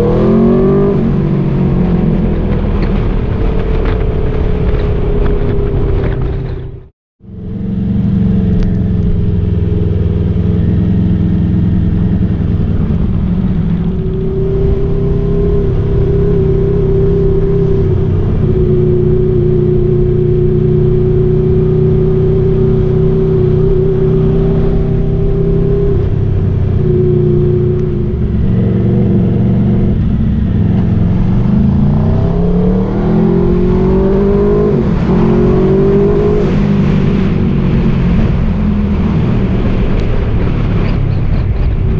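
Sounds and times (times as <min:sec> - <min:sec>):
motorcycle engine cruising and accelerating: 0:00.0 - 0:41.9.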